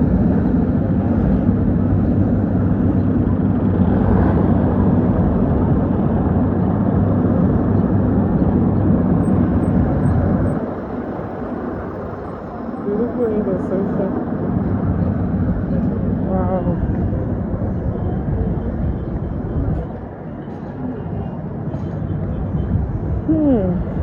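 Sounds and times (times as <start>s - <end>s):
heavy vehicle engine rumbling: 0.0s - 24.0s.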